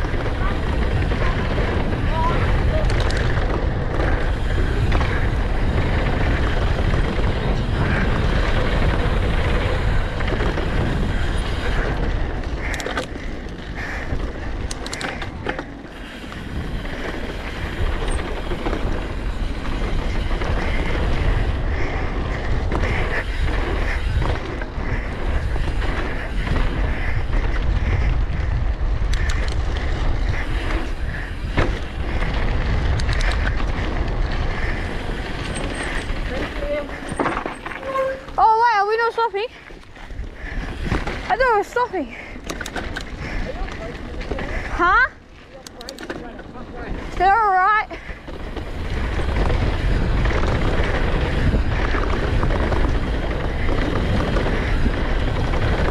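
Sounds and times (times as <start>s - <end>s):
wind rush on microphone: 0.0s - 45.9s, 46.6s - 55.9s
bike clicks and rattles: 0.0s - 55.9s.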